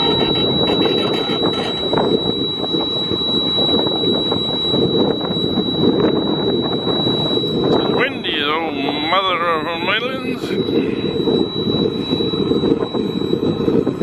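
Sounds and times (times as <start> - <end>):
high-pitched whine: 0.0 - 14.0
wind buffeting microphone: 0.0 - 14.0.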